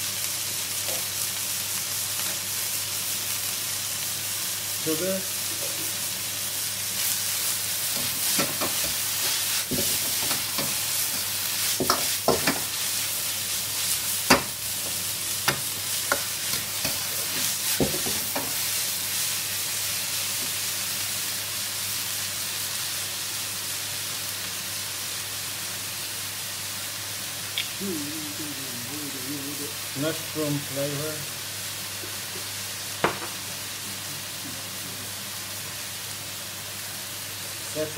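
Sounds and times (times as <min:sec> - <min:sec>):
vegetables sizzling in wok: 0:00.0 - 0:37.9.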